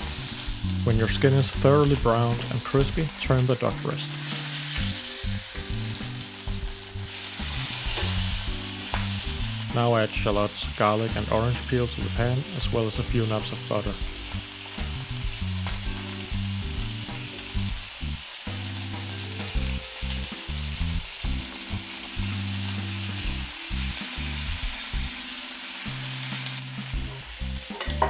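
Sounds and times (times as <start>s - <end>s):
meat sizzling in fat: 0.0s - 27.8s
background music: 0.0s - 28.0s.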